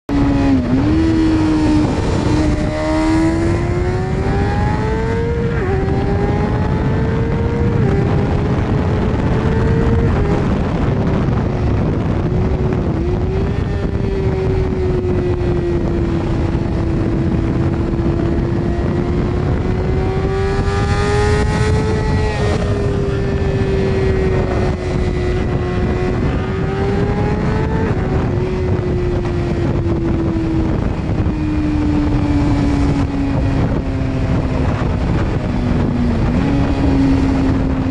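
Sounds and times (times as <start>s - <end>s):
motorcycle engine shifting gears: 0.1s - 37.9s
wind rush on microphone: 0.1s - 37.9s.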